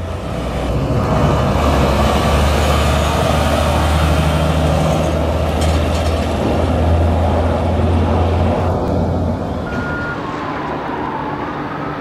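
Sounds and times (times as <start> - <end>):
truck diesel engines droning: 0.0 - 12.0.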